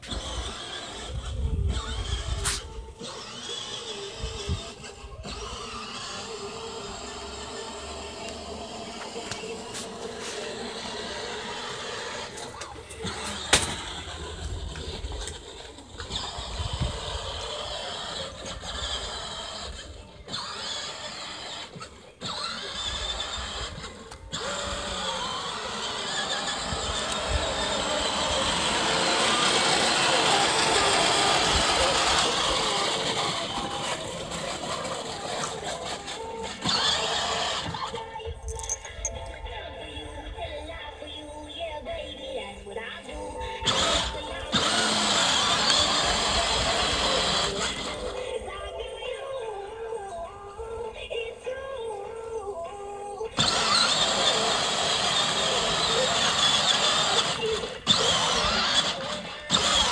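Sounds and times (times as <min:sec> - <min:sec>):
plastic wheels rolling on grass: 0:00.0 - 0:38.6, 0:39.4 - 0:51.6, 0:53.3 - 0:59.9
toy car electric motor whine: 0:00.0 - 0:59.9.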